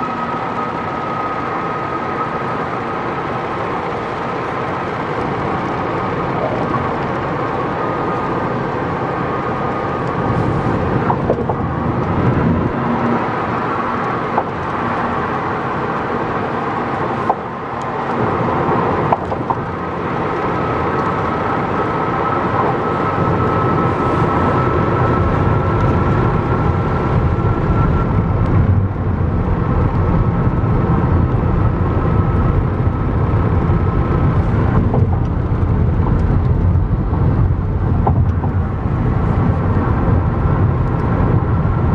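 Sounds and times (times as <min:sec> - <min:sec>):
car road and tyre noise: 0:00.0 - 0:41.9.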